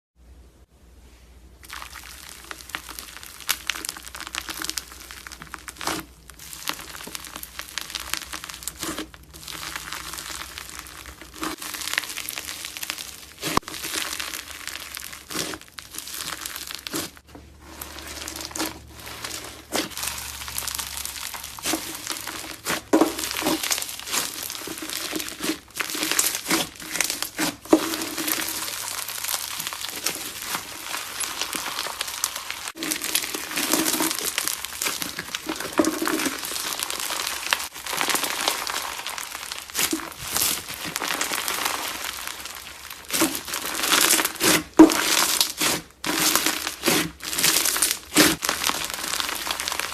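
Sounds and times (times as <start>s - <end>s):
crunchy slime crackling: 1.6s - 49.9s.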